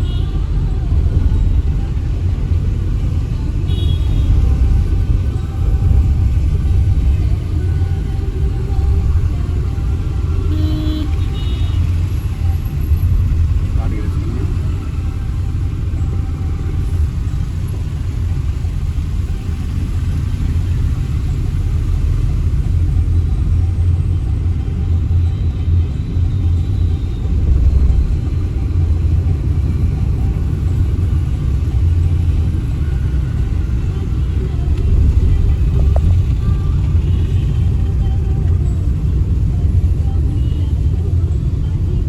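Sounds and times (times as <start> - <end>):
car driving rumble: 0.0 - 42.0.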